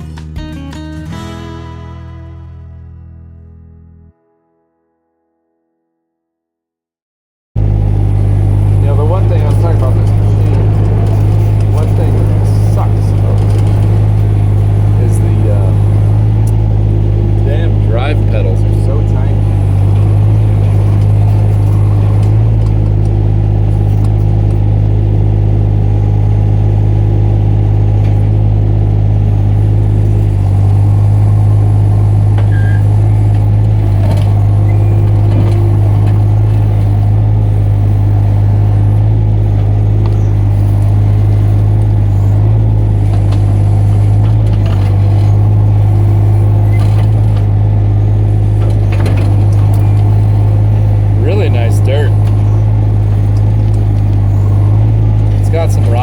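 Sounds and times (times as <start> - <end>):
diesel engine running: 7.6 - 56.0.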